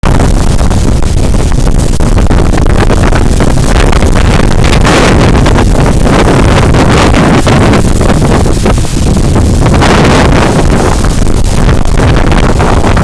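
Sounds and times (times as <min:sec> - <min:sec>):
strong wind against microphone: 0:00.0 - 0:13.0.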